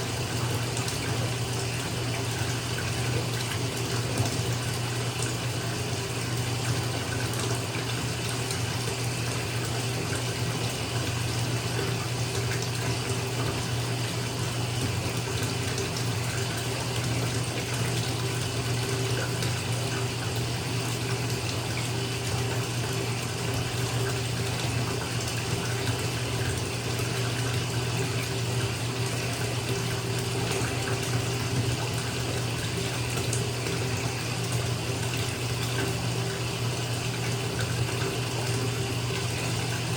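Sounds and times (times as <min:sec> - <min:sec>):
water pouring into bathtub: 0:00.0 - 0:39.9.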